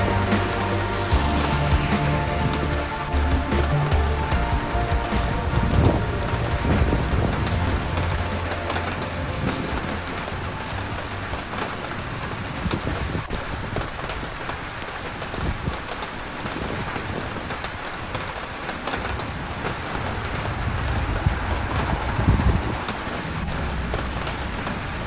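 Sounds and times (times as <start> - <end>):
street traffic rumble: 0.0 - 14.0, 17.7 - 25.0
rain falling: 0.0 - 25.0.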